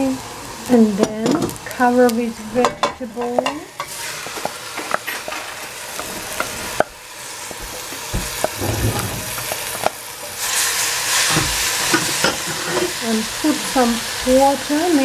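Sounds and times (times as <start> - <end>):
cabbage sizzling in a pot: 0.0 - 15.0.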